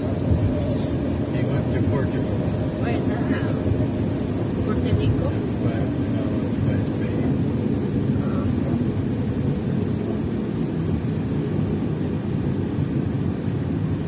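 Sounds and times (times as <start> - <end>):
car driving on wet road: 0.0 - 14.0.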